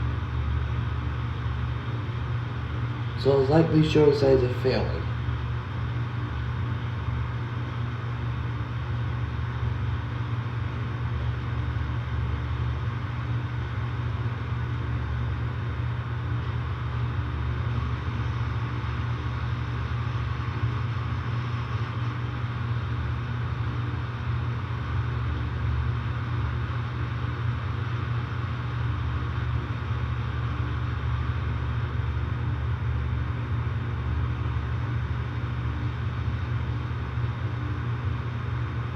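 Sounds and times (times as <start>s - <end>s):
compressor hum: 0.0s - 38.9s
condenser fan rushing: 0.0s - 38.9s.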